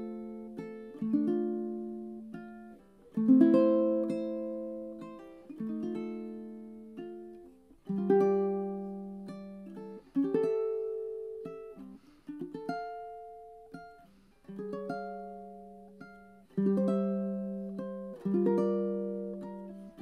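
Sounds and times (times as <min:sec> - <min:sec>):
ukulele fingerpicking ballad: 0:00.0 - 0:20.0.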